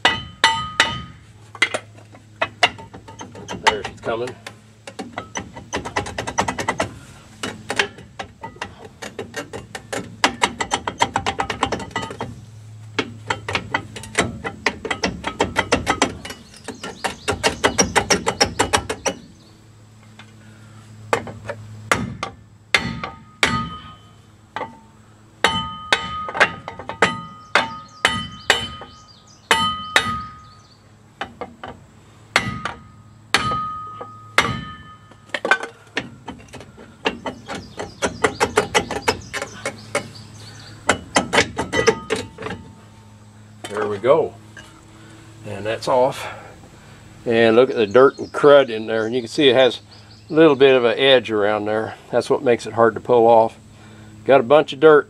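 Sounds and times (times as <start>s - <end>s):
brake drum rattling: 0.0s - 52.1s.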